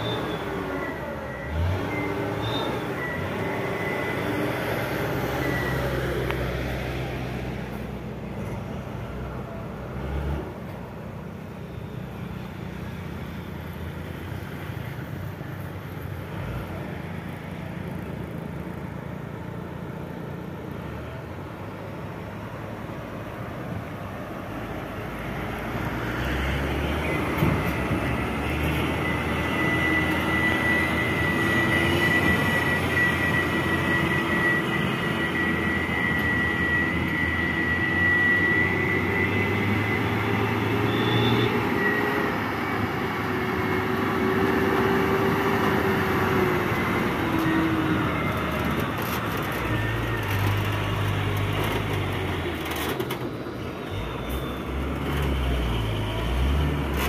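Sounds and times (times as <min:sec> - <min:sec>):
dump truck diesel engines rumbling: 0:00.0 - 0:57.0.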